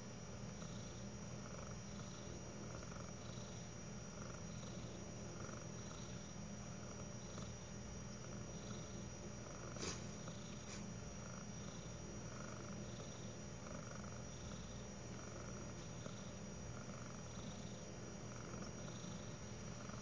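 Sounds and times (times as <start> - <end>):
steady low hum: 0.0 - 20.0
animal snoring softly: 0.5 - 20.0.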